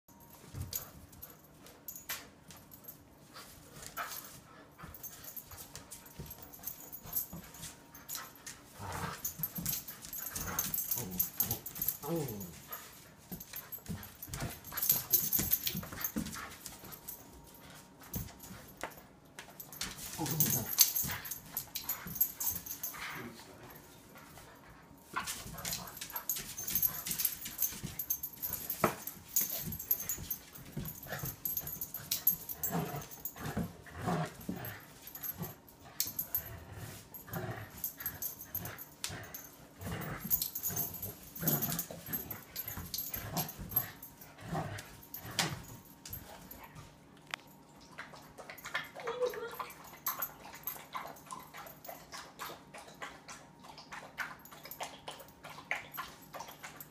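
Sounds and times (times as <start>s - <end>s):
dogs growling and scuffling: 0.3s - 56.9s.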